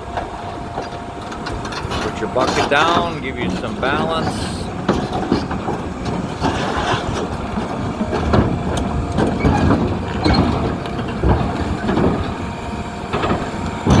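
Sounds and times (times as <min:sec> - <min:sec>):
excavator diesel engine running: 0:00.0 - 0:14.0
metal clanks and knocks: 0:00.2 - 0:14.0.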